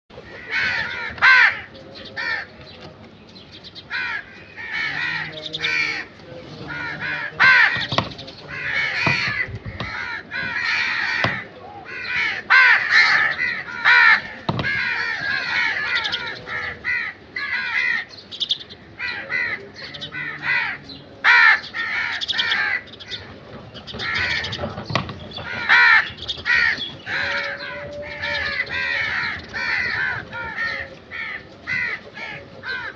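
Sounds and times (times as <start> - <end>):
crows cawing: 0.2 - 2.6, 3.8 - 32.9.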